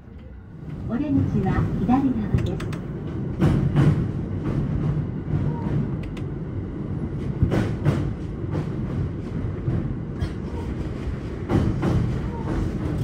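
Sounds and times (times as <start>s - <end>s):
train wheel-on-rail rumble: 0.0s - 13.0s.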